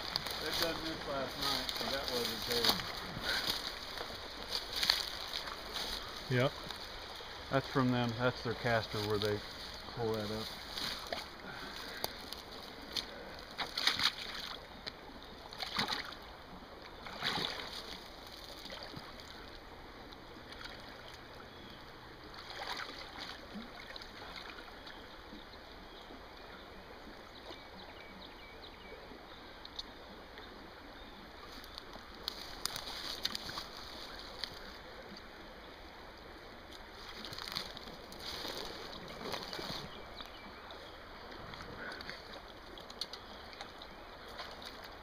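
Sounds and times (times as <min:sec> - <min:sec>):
water sloshing from wading: 0:00.0 - 0:27.8, 0:31.2 - 0:45.0
moving water background: 0:00.0 - 0:45.0.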